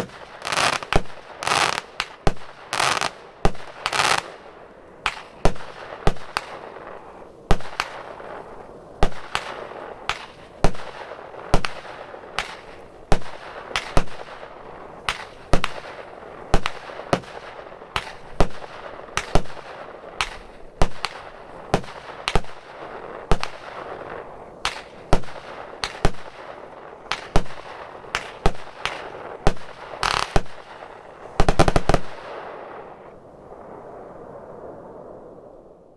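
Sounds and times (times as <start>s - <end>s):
fireworks bangs: 0.0s - 33.2s
fireworks hiss: 0.0s - 33.2s.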